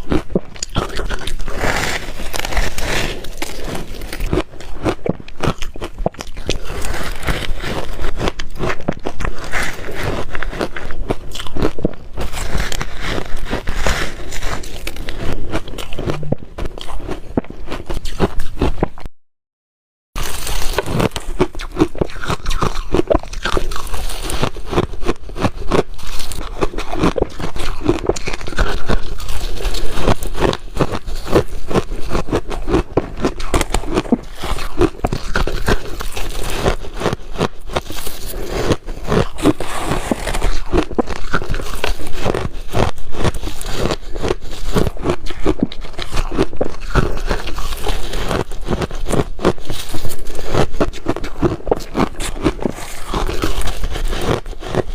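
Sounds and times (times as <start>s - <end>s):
ice being chewed: 0.0s - 19.1s, 20.2s - 54.9s.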